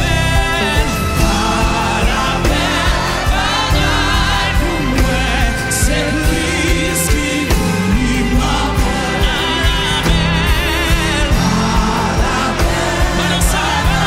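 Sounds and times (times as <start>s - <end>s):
electric keyboard and band: 0.0s - 14.0s.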